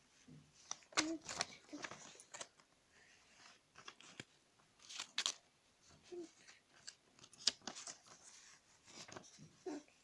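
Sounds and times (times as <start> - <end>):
paper crinkling and rustling: 0.6 - 9.9.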